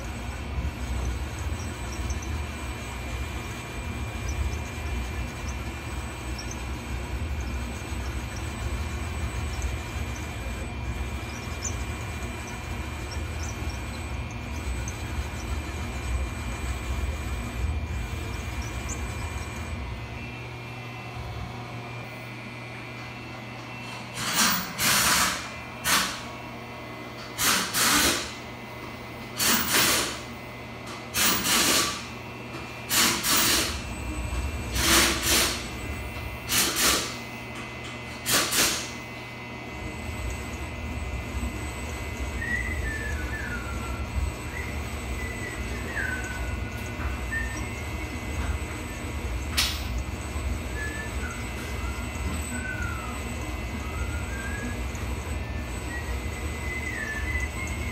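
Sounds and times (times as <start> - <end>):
mill humming and rumbling: 0.0 - 57.9.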